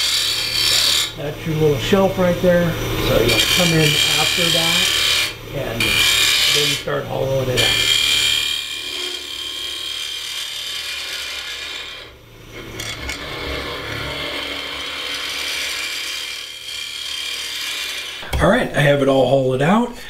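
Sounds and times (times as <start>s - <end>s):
lathe tool scraping wood: 0.0s - 19.8s.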